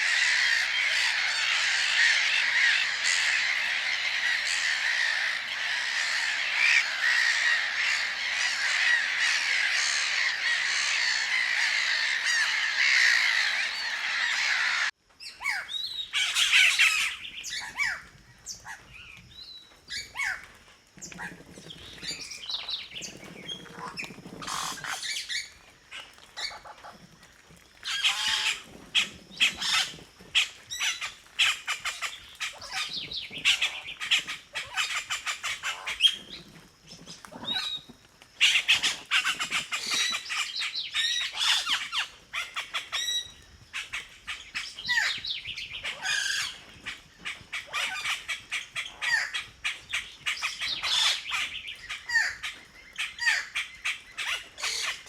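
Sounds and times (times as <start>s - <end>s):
birds chorus: 0.0s - 27.0s, 27.8s - 55.0s.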